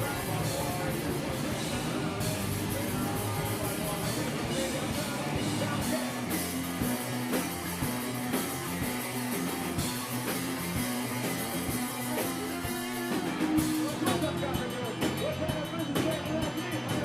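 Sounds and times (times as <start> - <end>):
bass guitar: 0.0 - 17.0
drum kit steady beat: 0.0 - 17.0
electric guitar: 0.0 - 17.0.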